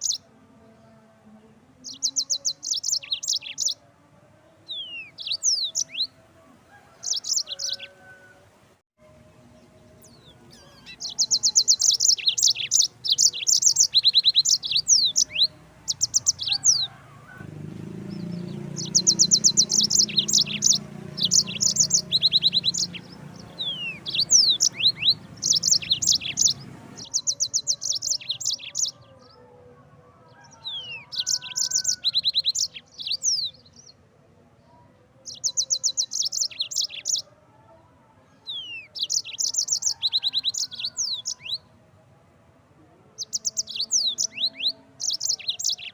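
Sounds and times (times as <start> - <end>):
canary singing trills: 0.0 - 0.9, 1.8 - 3.8, 4.6 - 8.3, 9.5 - 29.5, 30.2 - 34.0, 35.2 - 37.4, 38.4 - 41.8, 43.2 - 45.9.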